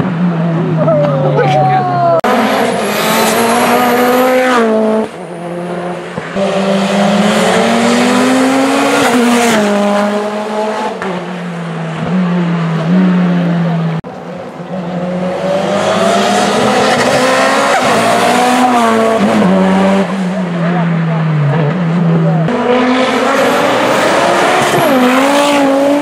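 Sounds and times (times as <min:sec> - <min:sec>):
race car engines at high revs: 0:02.2 - 0:26.0.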